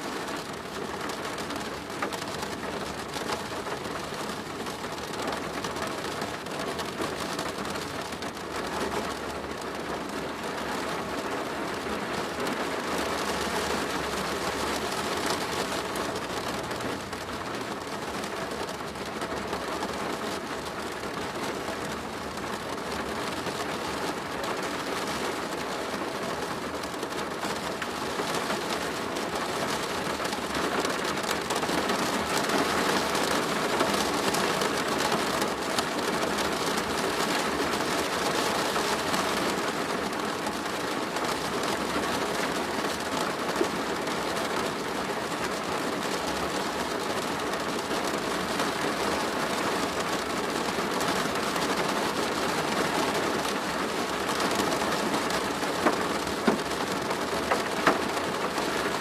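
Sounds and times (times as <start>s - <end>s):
rain on a plastic roof: 0.0s - 59.0s.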